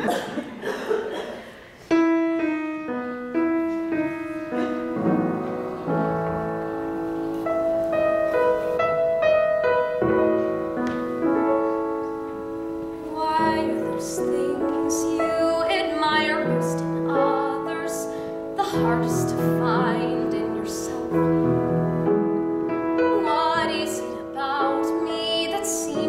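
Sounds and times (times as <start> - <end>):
solo piano playing: 1.9 - 26.0.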